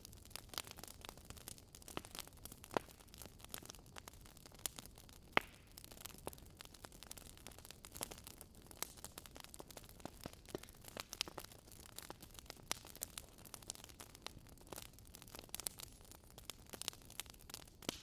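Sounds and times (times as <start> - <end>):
firewood crackling: 0.0 - 18.0.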